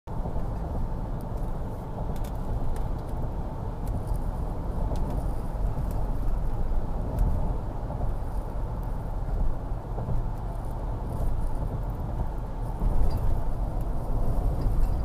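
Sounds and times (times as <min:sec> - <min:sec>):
vehicle engine and road rumble: 0:00.1 - 0:15.0.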